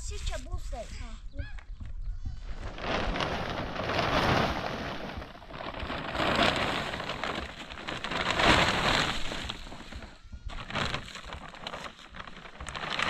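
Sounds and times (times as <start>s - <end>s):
plastic sheet crinkling: 2.4s - 13.0s.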